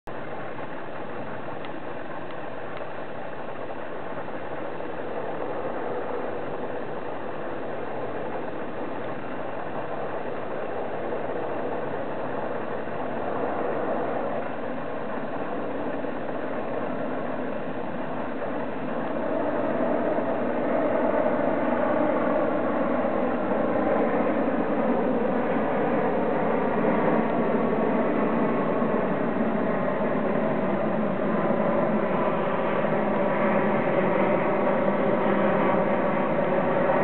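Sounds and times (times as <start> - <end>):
distant jet airliner drone: 0.1 - 37.0.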